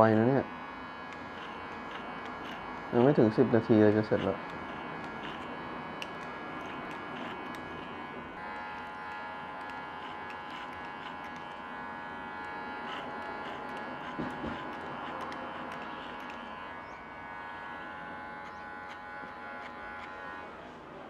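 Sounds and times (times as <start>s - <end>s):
hair clippers buzzing: 0.0s - 20.7s.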